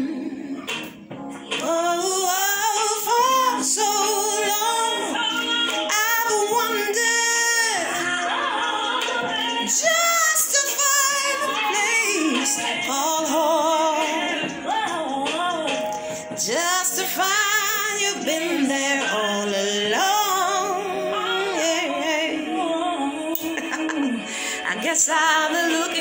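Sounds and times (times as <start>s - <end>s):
woman singing with vibrato: 0.0s - 0.7s, 1.5s - 26.0s
music: 0.0s - 26.0s.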